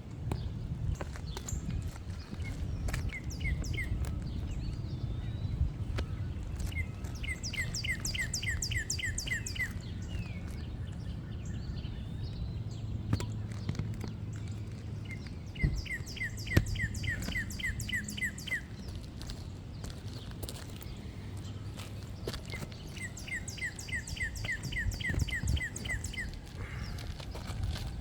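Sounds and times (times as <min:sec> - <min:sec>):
songbird singing downslurred notes: 0:00.3 - 0:27.0.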